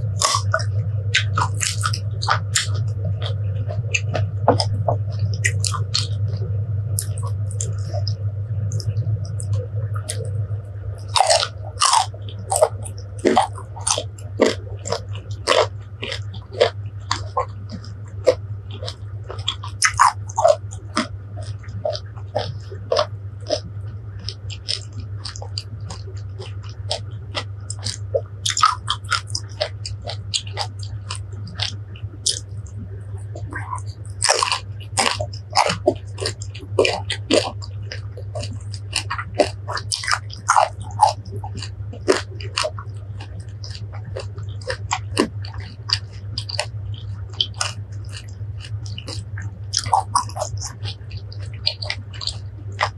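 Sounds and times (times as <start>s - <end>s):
crunchy chewing of fruit: 0.0s - 52.9s
low hum: 0.0s - 52.9s.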